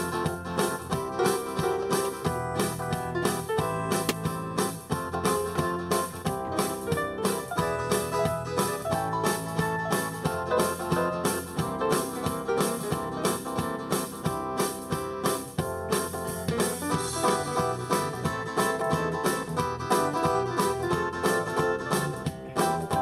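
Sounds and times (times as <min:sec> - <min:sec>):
keyboard background music: 0:00.0 - 0:23.0.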